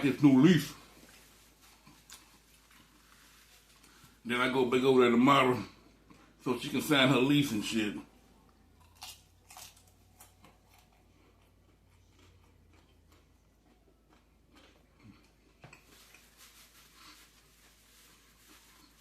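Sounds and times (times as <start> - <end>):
faint chewing sounds: 0.1 - 4.3, 5.6 - 6.8, 8.0 - 19.0.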